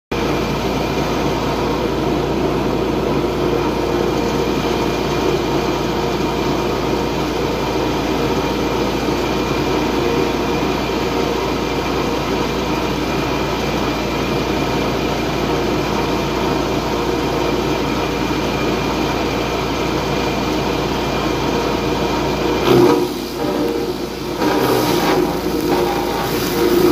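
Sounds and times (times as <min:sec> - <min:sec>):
wood chipper engine droning: 0:00.1 - 0:26.9.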